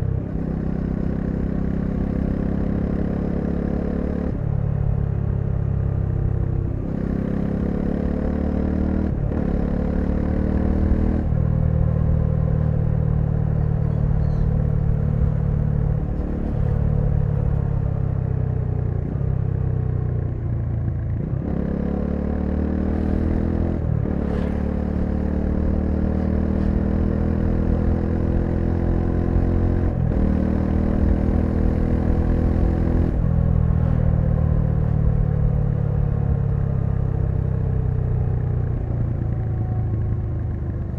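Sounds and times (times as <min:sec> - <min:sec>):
motorcycle engine revving: 0:06.3 - 0:19.6, 0:21.2 - 0:40.9.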